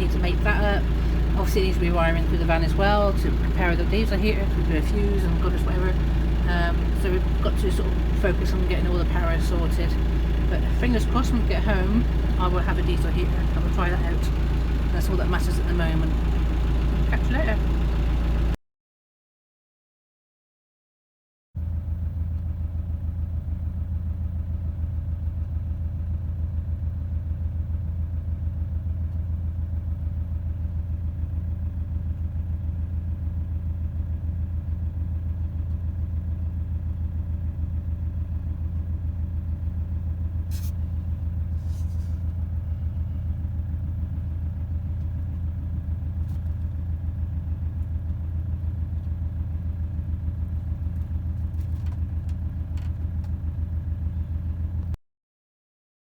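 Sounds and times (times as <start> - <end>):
vehicle engine rumbling: 0.0 - 18.6, 21.6 - 55.0.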